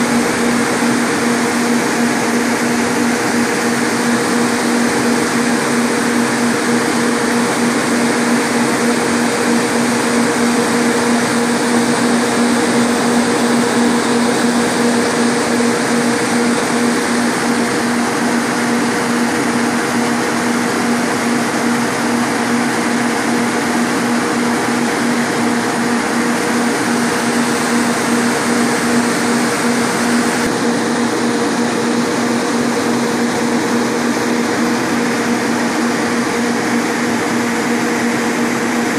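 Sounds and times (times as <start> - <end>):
cooling fans rushing air: 0.0 - 38.9
fan motors low hum: 0.0 - 38.9.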